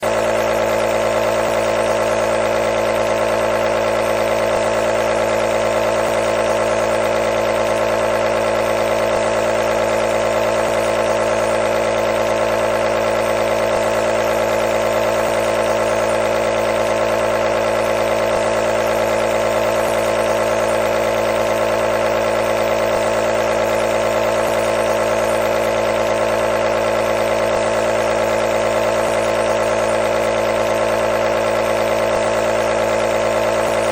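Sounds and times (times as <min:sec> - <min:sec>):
compressor humming: 0:00.0 - 0:33.9.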